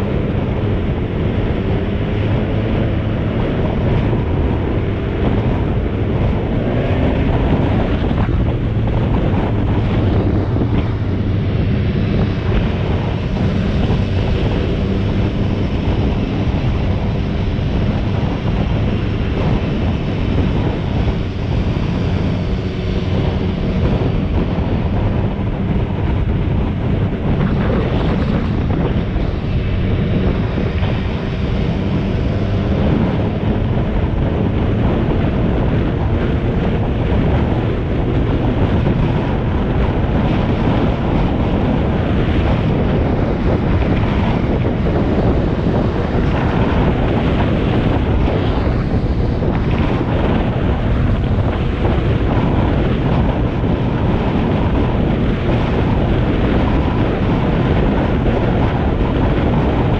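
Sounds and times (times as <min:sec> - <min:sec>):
engine running: 0:00.0 - 0:59.9
wind buffeting microphone: 0:00.0 - 0:59.9.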